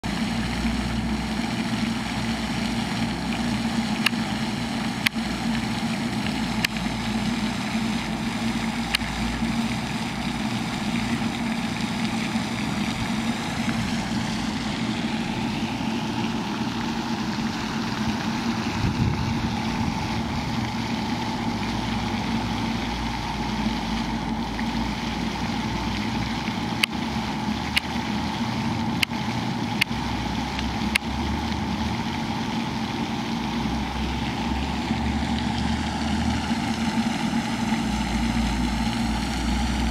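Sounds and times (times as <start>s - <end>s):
constant low hum: 0.0s - 39.9s.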